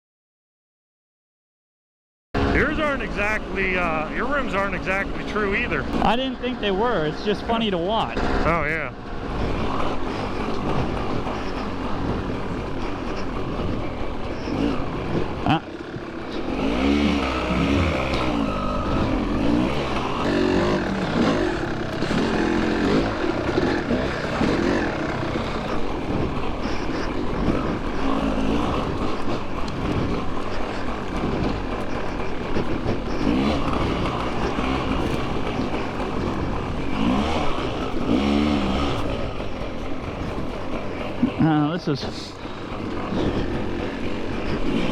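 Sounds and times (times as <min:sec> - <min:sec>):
dirt bike engine revving: 0:02.4 - 0:44.9
wind rumbling on microphone: 0:02.4 - 0:44.9.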